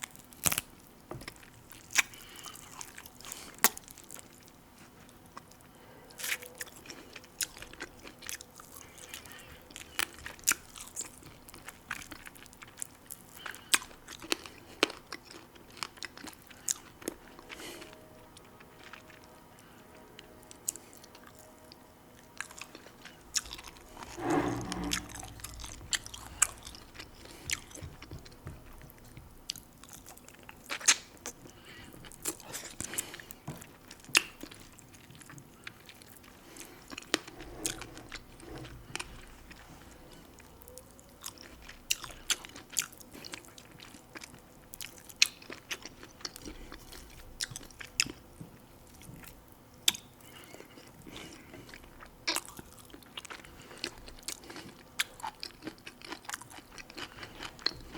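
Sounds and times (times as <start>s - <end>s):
close-miked chewing: 0.0s - 57.9s.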